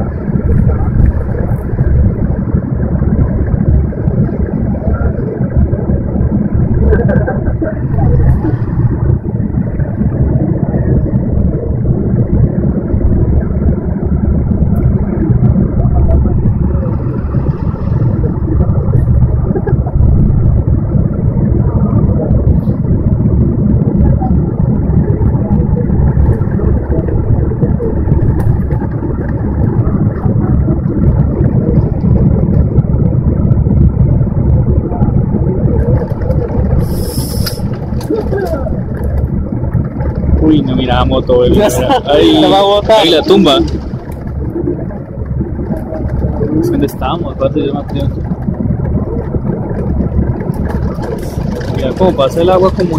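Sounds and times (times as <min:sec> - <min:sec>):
floodwater rushing: 0:00.0 - 0:52.9
heavy rain: 0:00.0 - 0:52.9.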